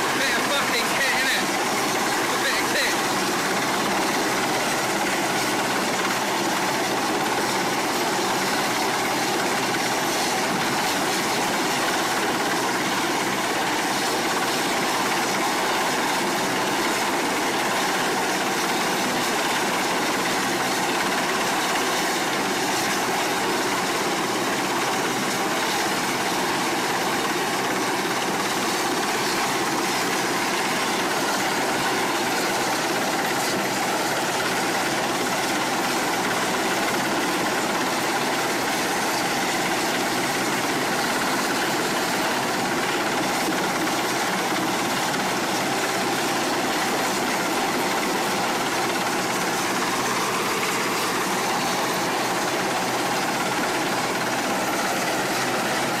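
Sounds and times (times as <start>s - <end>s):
helicopter hovering overhead: 0.0s - 56.0s.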